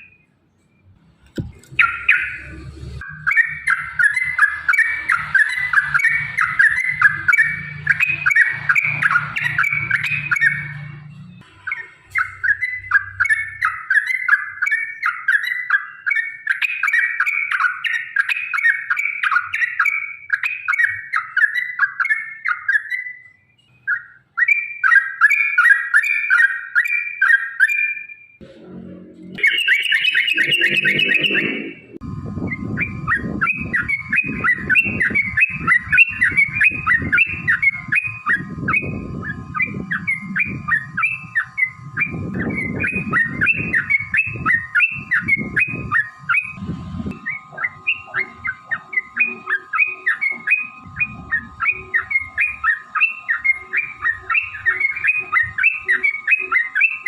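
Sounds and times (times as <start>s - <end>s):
bulbul chattering song: 0.0s - 57.0s.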